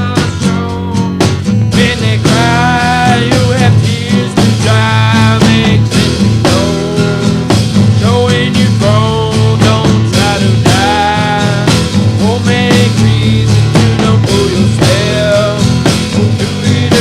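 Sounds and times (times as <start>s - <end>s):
psychedelic rock music: 0.0s - 17.0s.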